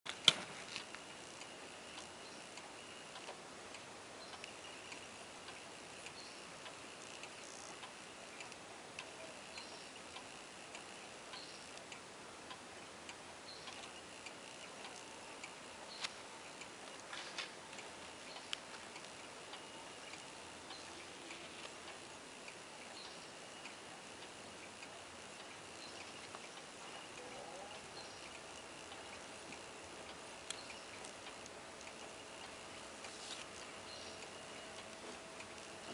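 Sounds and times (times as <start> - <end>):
wall clock ticking: 0.1 - 35.9.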